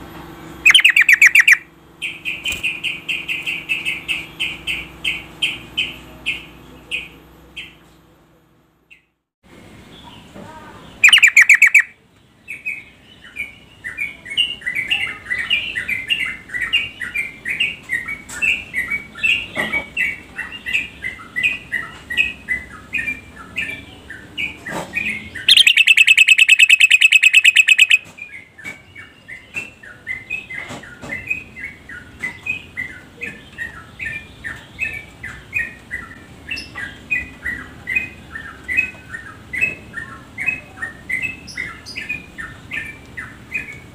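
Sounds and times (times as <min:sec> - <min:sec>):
bird chattering chirps: 0:00.6 - 0:07.8, 0:10.9 - 0:12.0, 0:14.0 - 0:43.8.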